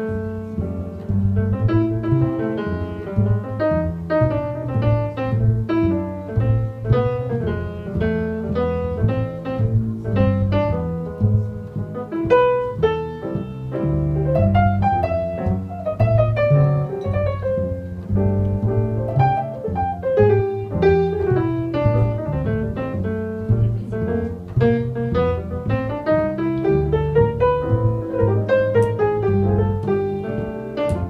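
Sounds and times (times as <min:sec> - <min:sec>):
grand piano: 0:00.0 - 0:31.0
plucked double bass: 0:00.0 - 0:31.0.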